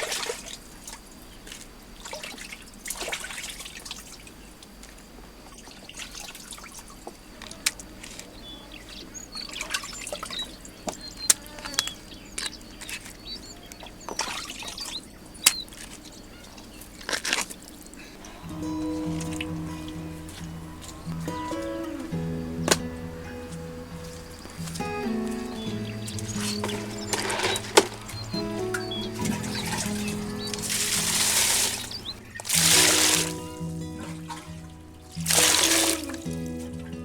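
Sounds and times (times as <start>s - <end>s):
water splashing and dripping: 0.0s - 36.8s.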